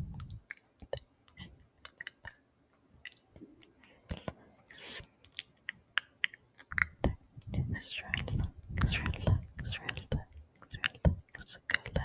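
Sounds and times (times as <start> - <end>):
wet mouth clicks and smacks: 0.0 - 12.0.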